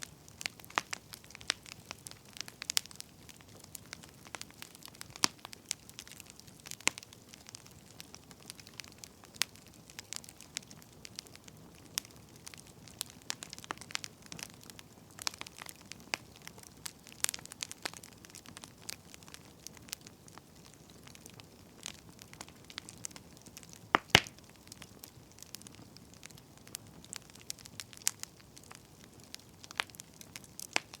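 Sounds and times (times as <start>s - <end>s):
faint steady hiss: 0.0s - 31.0s
wood fire crackling: 0.0s - 31.0s.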